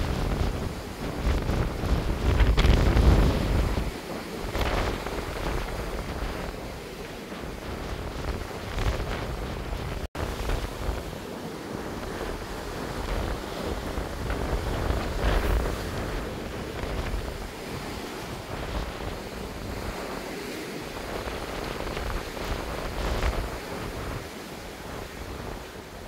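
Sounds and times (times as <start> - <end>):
sea rushing: 0.0 - 26.0
wind buffeting microphone: 0.0 - 26.0.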